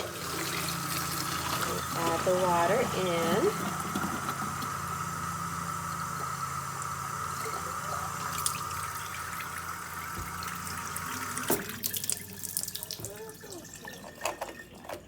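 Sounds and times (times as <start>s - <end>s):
tap water running into bottle: 0.0s - 15.0s.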